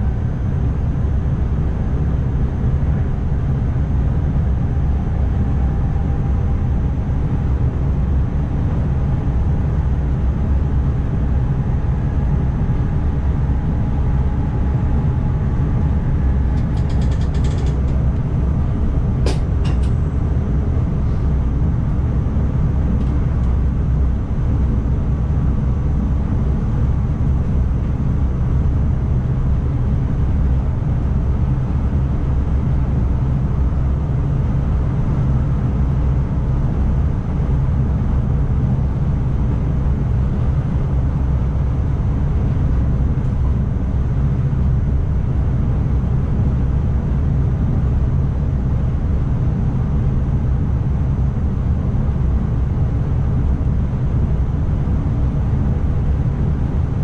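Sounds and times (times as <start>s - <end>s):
electric train rumble: 0.0s - 57.0s.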